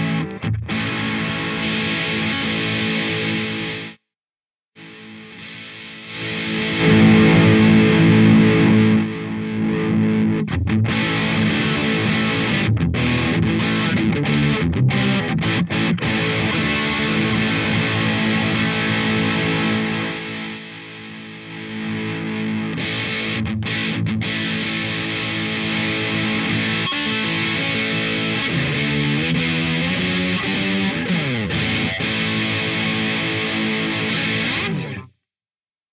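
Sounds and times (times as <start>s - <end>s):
distorted electric guitar: 0.0s - 4.0s, 4.8s - 35.2s.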